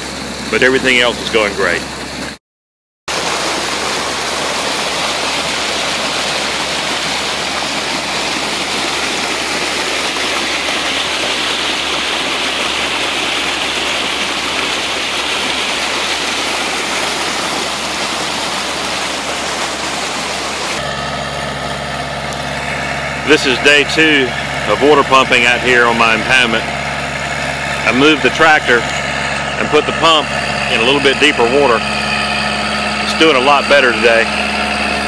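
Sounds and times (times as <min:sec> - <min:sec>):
water gushing from pipe: 0:00.0 - 0:02.4, 0:03.1 - 0:35.0.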